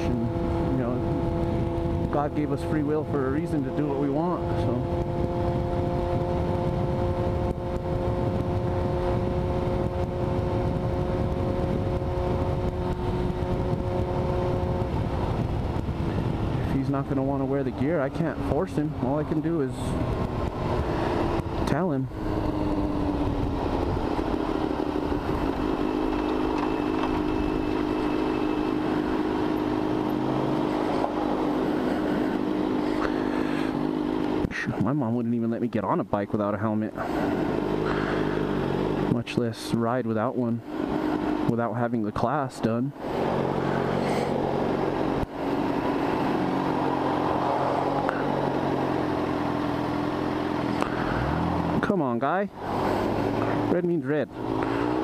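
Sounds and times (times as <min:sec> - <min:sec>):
motorcycle engine running: 0:00.0 - 0:35.4, 0:36.6 - 0:55.0.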